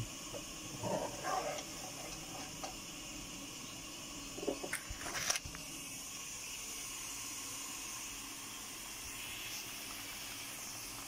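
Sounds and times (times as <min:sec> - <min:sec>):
curry hissing in a pot: 0:00.0 - 0:11.0.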